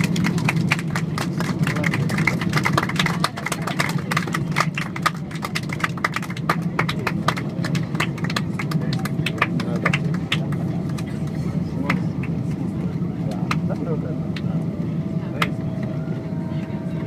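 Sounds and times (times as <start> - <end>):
jet and airflow roar: 0.0 - 17.0.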